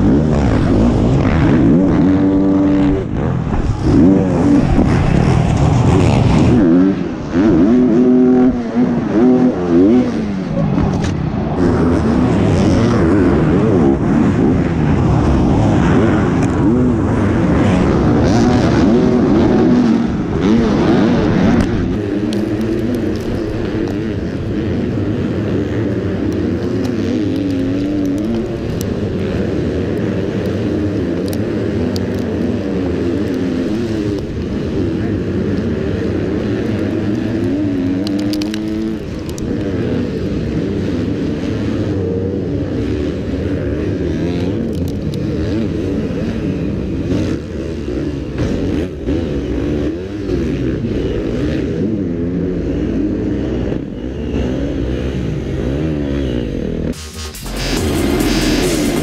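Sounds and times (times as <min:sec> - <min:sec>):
motocross bike engine revving: 0:00.0 - 0:59.0
surrounding motorbike engines: 0:00.0 - 0:59.0.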